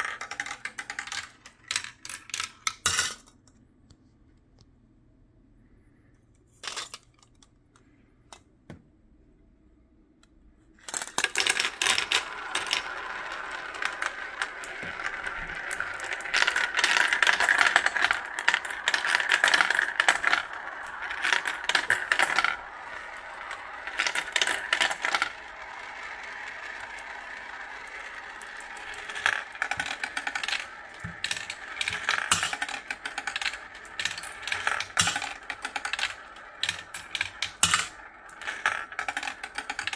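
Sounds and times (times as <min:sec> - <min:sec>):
marbles rolling in plastic run: 0:00.0 - 0:03.2, 0:10.8 - 0:39.9
marbles clicking and clacking: 0:00.0 - 0:03.3, 0:10.8 - 0:39.9.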